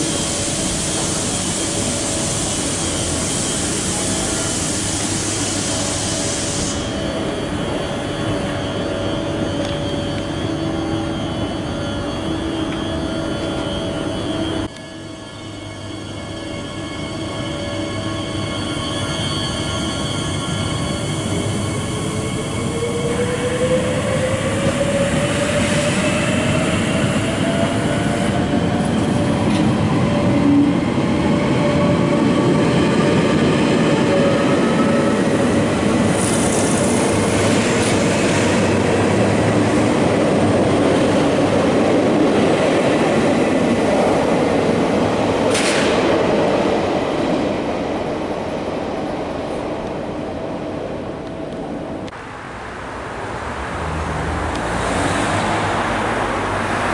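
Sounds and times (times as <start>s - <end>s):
electric train rumble and whine: 0.0s - 56.9s.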